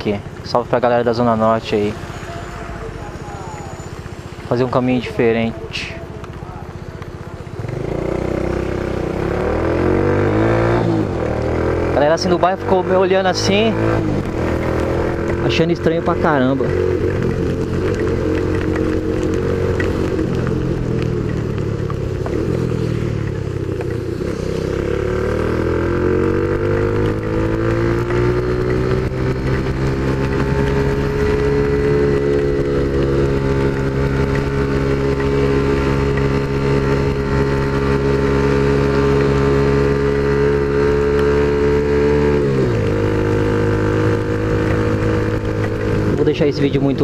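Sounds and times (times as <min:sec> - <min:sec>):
scooter engine running: 0:02.7 - 0:47.0.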